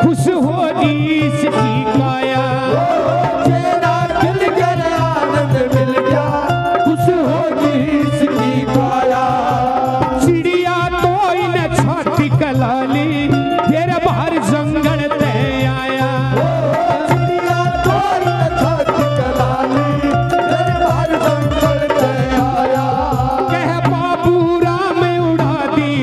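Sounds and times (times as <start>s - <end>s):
hand drum rhythm: 0.0s - 26.0s
man singing into a microphone: 0.0s - 26.0s.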